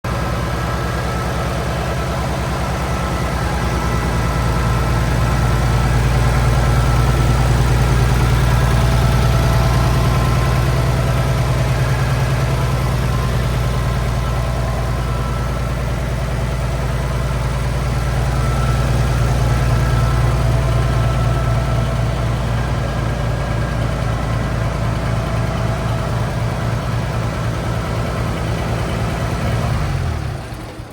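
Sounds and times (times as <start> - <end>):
tractor engine idling: 0.0 - 30.9.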